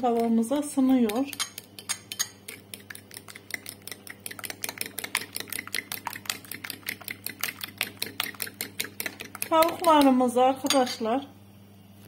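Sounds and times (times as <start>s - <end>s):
fork beating eggs in bowl: 0.0s - 11.0s.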